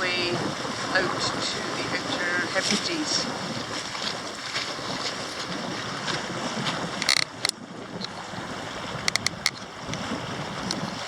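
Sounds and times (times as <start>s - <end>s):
water rushing along hull: 0.0s - 11.0s
wind buffeting microphone: 0.0s - 11.0s.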